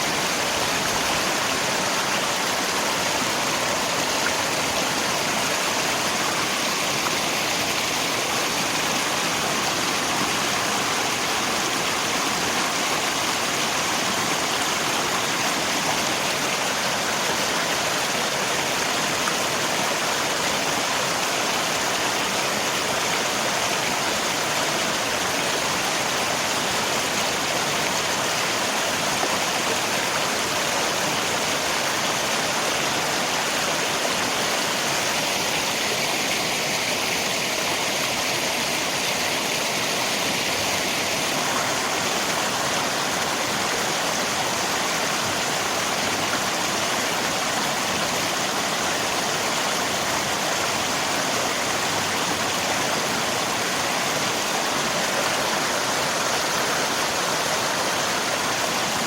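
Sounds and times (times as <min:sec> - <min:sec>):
rain falling: 0:00.0 - 0:59.0
rushing river: 0:00.0 - 0:59.0.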